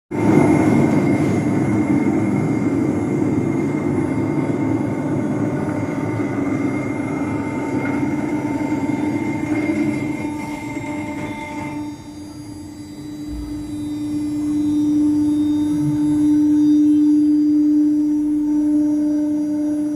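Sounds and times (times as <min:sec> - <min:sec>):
cnc router machine running: 0:00.1 - 0:19.9.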